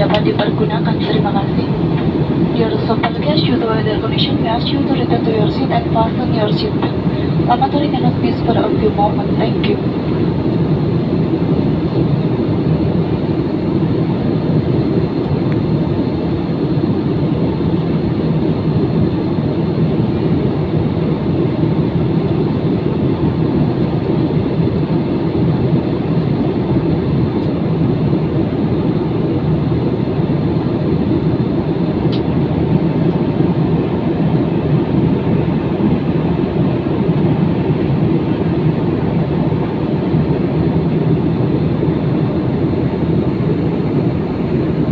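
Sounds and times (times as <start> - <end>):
jet airliner cabin noise: 0.0 - 44.9.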